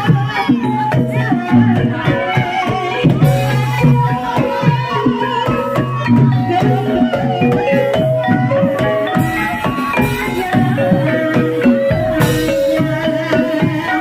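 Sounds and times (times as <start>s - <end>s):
gamelan struck metal melody: 0.0s - 14.0s
hand drum rhythm: 0.0s - 14.0s.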